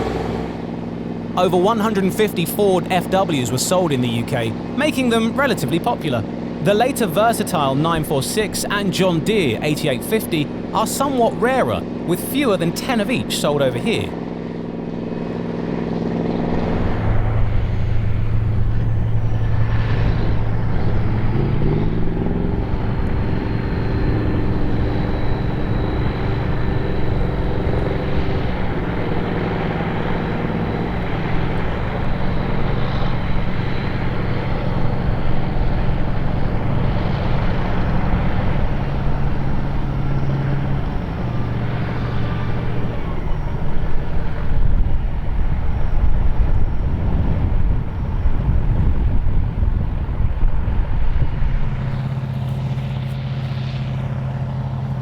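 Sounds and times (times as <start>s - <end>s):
tractor diesel engines droning: 0.0s - 55.0s.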